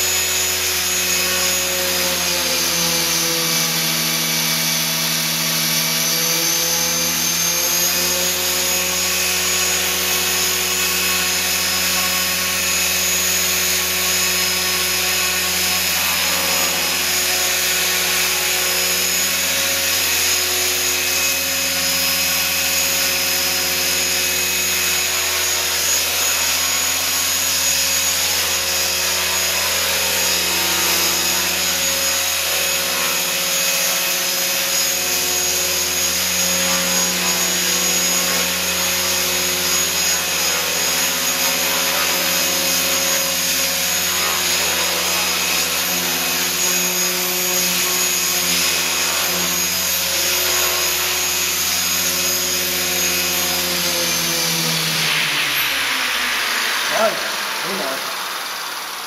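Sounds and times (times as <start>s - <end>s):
rc helicopter rotors whirring: 0.0s - 59.0s.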